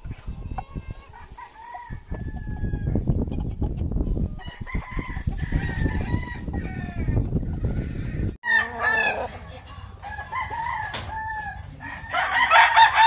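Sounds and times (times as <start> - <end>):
chickens clucking: 0.0 - 12.2.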